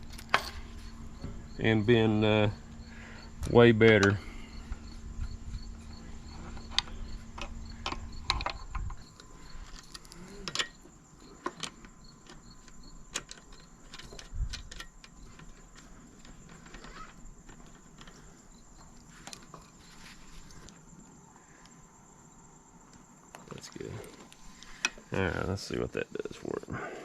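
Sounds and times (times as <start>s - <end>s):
insects chirping: 0.0s - 27.0s
low steady hum: 0.0s - 27.0s.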